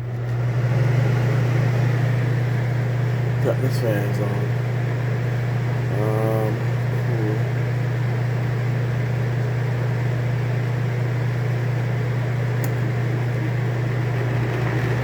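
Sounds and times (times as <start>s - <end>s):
air conditioner blower rush: 0.0s - 15.0s.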